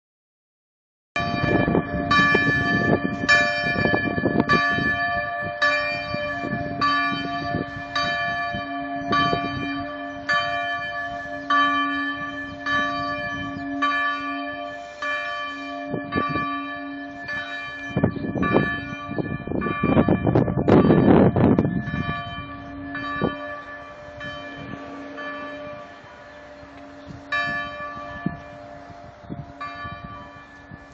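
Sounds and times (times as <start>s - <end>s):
church bell ringing: 1.2s - 30.9s.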